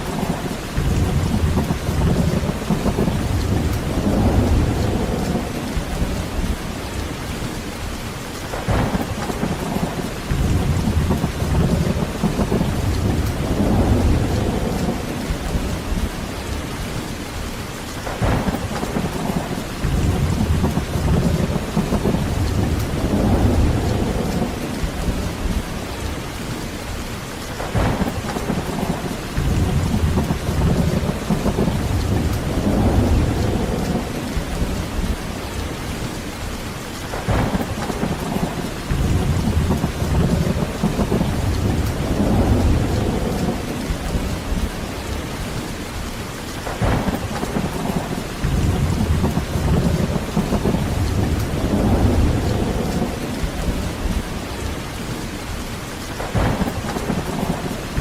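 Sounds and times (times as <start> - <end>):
thunder cracking and rumbling: 0.0 - 17.1, 18.0 - 58.0
heavy rain falling: 0.0 - 58.0.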